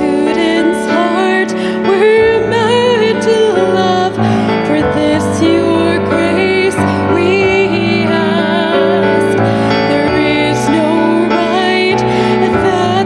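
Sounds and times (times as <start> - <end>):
grand piano: 0.0 - 13.0
woman singing with vibrato: 0.0 - 13.0.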